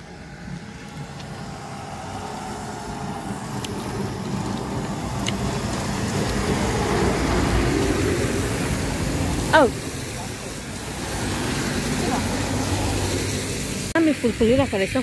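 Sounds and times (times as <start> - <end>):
pickup truck engine hum: 0.0 - 15.0
tyres hissing on wet road: 0.0 - 15.0.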